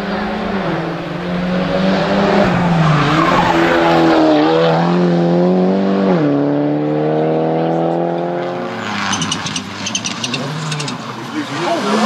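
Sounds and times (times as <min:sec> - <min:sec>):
rally car engine revving high: 0:00.0 - 0:12.0.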